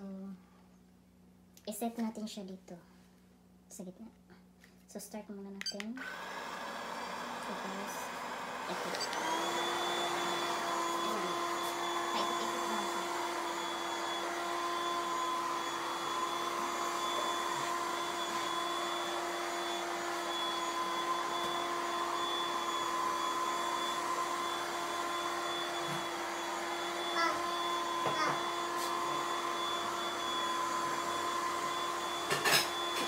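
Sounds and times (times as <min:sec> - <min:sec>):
robot vacuum motor whine: 0:06.0 - 0:33.0
vacuum hiss: 0:06.0 - 0:33.0.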